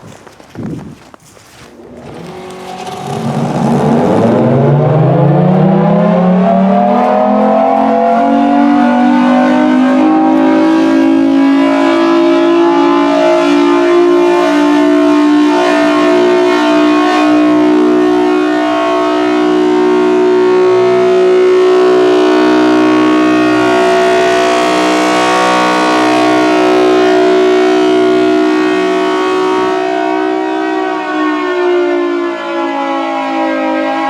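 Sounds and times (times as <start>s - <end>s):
warning siren wailing: 1.8s - 34.0s.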